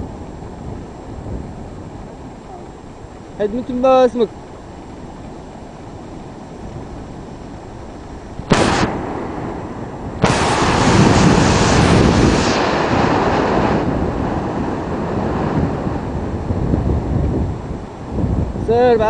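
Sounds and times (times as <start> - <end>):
surf: 0.0 - 19.0
wind buffeting microphone: 0.0 - 19.0.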